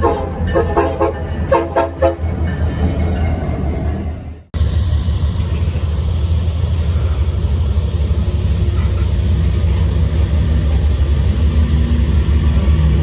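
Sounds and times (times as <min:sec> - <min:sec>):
large engine rumbling: 0:00.0 - 0:13.0.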